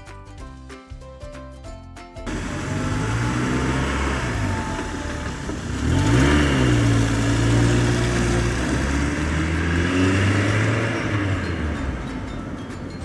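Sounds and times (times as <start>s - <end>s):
excavator engine revving: 2.3s - 13.0s.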